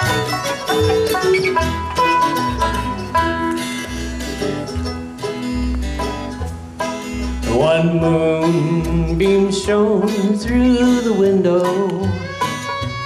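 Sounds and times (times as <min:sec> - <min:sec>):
acoustic guitar: 0:00.0 - 0:13.0
banjo: 0:00.0 - 0:13.0
fiddle melody: 0:00.0 - 0:13.0
upright bass: 0:00.0 - 0:13.0.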